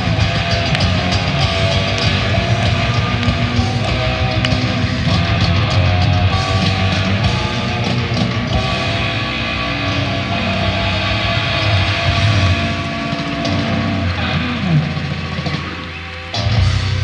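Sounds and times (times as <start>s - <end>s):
bass guitar: 0.0s - 17.0s
drums: 0.0s - 17.0s
electric guitar: 0.0s - 17.0s
keyboards: 0.0s - 17.0s.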